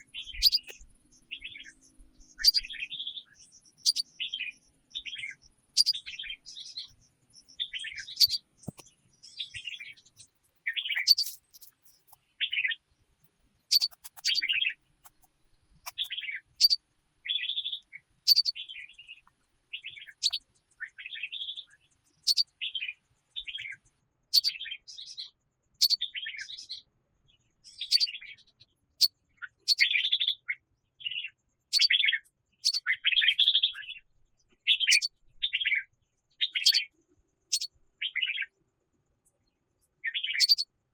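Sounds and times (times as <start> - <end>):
songbird singing: 0.0 - 13.0, 13.6 - 26.8, 27.7 - 35.8, 36.4 - 36.9, 37.5 - 38.5, 40.0 - 40.7.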